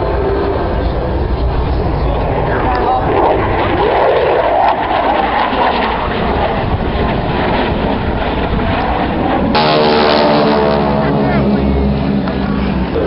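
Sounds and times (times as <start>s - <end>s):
jet aircraft flying by: 0.0s - 13.0s.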